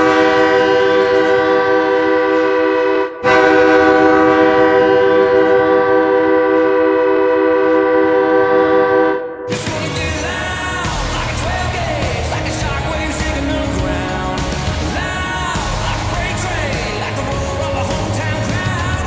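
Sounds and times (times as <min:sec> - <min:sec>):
goal horn chord: 0:00.0 - 0:19.0.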